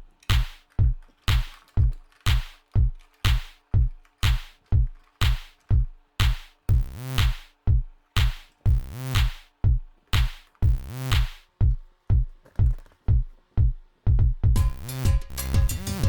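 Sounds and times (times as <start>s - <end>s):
electronic music with drum-machine beat: 0.0s - 16.0s.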